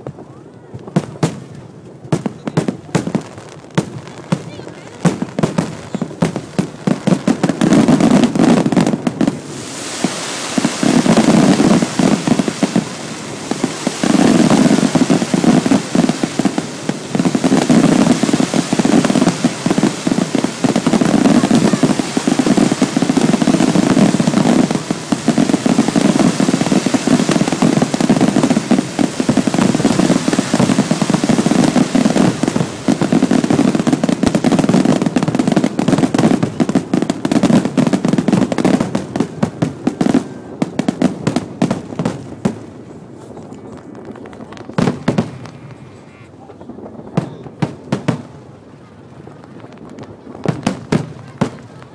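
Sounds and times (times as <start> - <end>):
fireworks and firecrackers crackling: 0.0 - 51.9.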